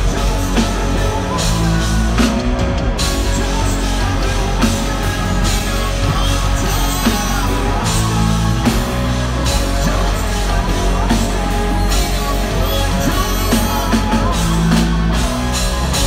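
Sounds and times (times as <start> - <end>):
bass guitar: 0.0 - 16.0
drum kit: 0.0 - 16.0
electric guitar: 0.0 - 16.0.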